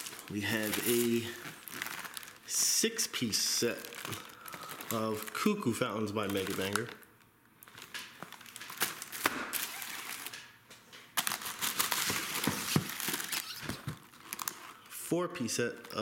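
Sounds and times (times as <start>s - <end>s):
plastic shrink-wrap crinkling: 0.0s - 16.0s.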